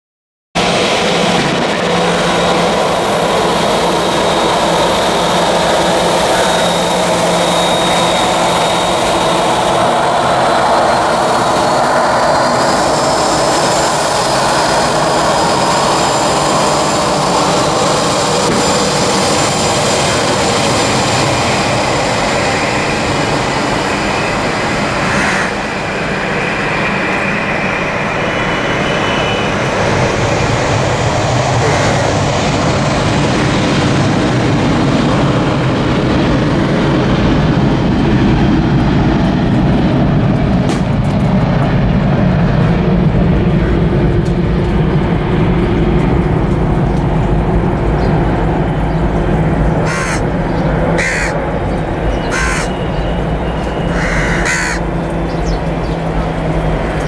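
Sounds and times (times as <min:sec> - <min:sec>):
high jet engine whine: 0:00.6 - 0:57.0
jet engines roaring: 0:00.6 - 0:57.0.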